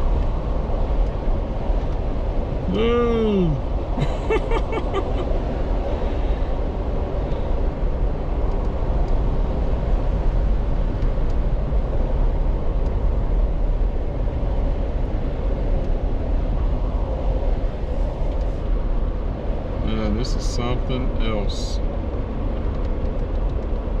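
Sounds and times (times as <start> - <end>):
car road and engine noise: 0.0 - 24.0
faint constant hum: 0.0 - 24.0.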